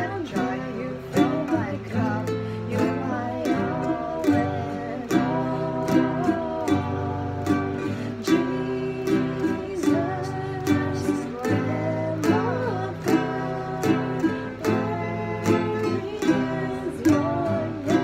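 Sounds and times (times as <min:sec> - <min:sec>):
ukulele strumming: 0:00.0 - 0:18.0
woman singing: 0:00.0 - 0:18.0.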